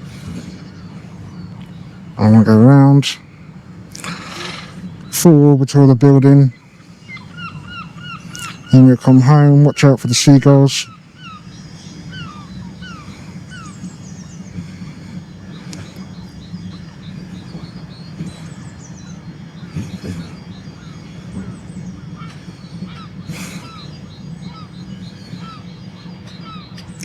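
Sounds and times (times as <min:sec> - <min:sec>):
seagulls calling: 0:00.0 - 0:27.0
steady low rumble: 0:00.0 - 0:27.0.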